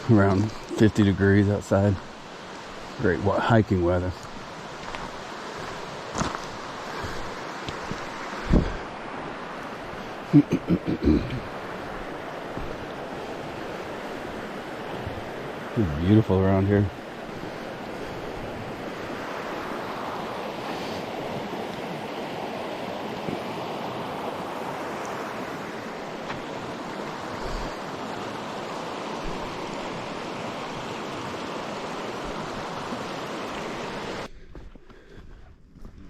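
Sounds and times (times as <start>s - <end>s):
creek water rushing: 0.0s - 35.2s.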